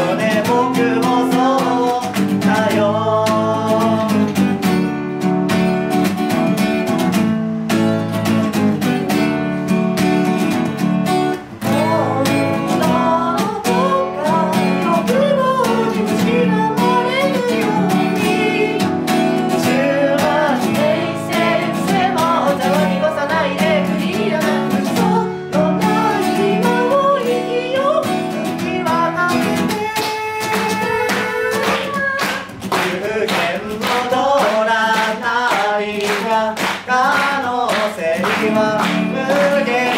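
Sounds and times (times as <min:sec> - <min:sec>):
people singing: 0:00.0 - 0:04.3, 0:11.6 - 0:39.9
acoustic guitar strumming: 0:00.0 - 0:39.9.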